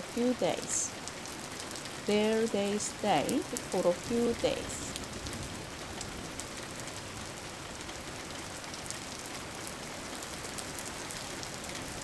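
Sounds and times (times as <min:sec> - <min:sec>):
scattered raindrops: 0:00.0 - 0:12.0
steady rain patter: 0:00.0 - 0:12.0.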